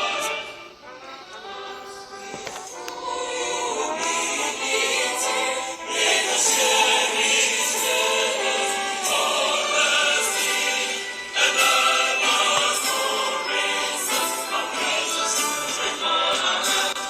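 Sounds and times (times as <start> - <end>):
choir singing held chords: 0.0 - 17.0
instrumental accompaniment: 0.0 - 17.0.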